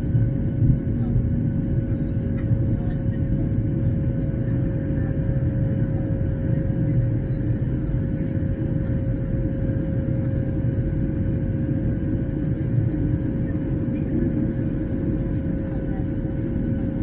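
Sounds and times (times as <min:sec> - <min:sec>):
airliner engines and airflow rumble: 0:00.0 - 0:17.0.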